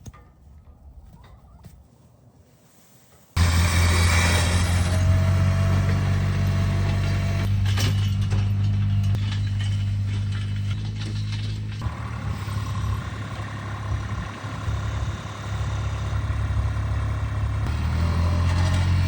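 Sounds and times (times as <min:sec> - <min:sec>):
vehicle engine running: 0:03.4 - 0:19.0.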